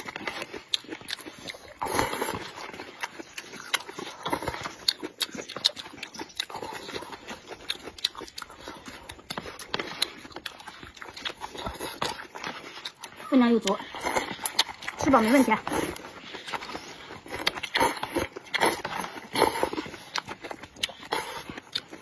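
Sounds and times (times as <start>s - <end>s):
noodles slurping: 0.0s - 22.0s
wet chewing and lip smacks: 0.0s - 22.0s.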